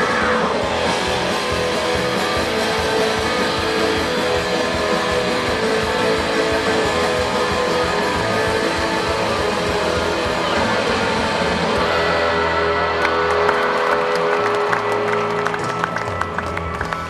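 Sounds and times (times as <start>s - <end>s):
live rock band playing: 0.0s - 17.0s
strummed guitar: 0.0s - 17.0s.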